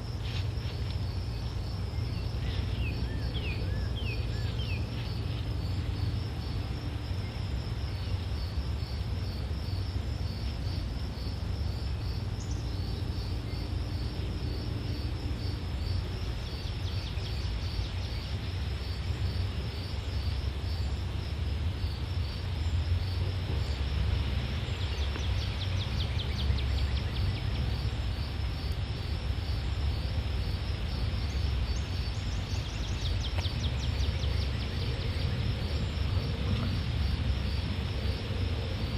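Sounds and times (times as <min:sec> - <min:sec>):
constant low rumble: 0:00.0 - 0:38.9
insects chirping: 0:00.0 - 0:38.9.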